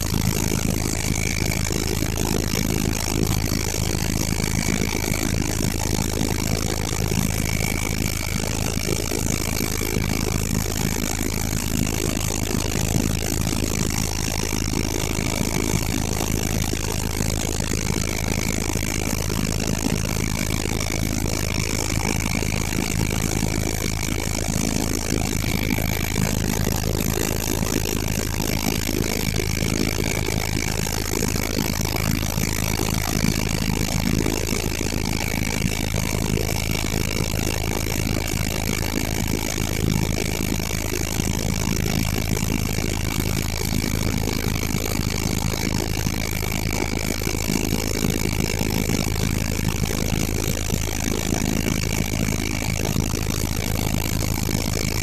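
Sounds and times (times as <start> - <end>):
helicopter droning and whining: 0.0 - 55.0.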